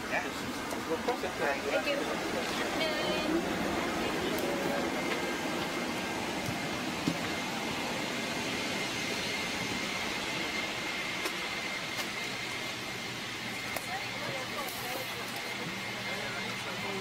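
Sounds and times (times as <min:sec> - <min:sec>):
air conditioning rushing: 0:00.0 - 0:17.0.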